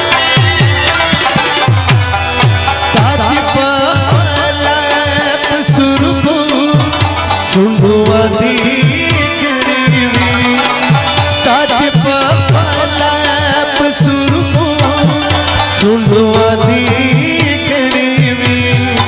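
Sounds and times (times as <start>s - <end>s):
harmonium chords: 0.0s - 19.0s
tabla rhythm: 0.0s - 19.0s
man singing: 2.9s - 19.0s.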